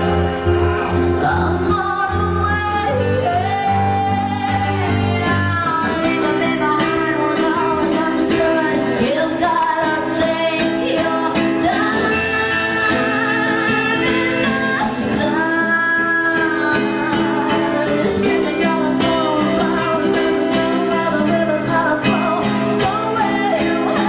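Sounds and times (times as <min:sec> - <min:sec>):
acoustic guitar: 0:00.0 - 0:24.0
woman singing: 0:00.0 - 0:24.0.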